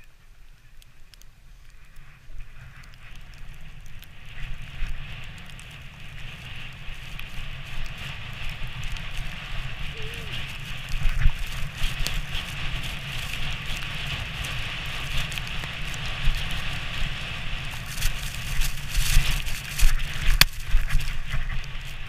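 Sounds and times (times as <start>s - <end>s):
sledge runners scraping over snow: 1.5s - 22.0s.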